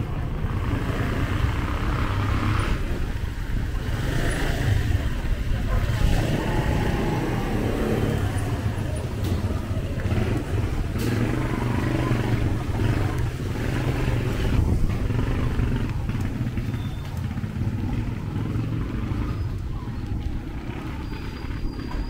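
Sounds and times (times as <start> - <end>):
motorcycle and car engines: 0.0 - 22.0.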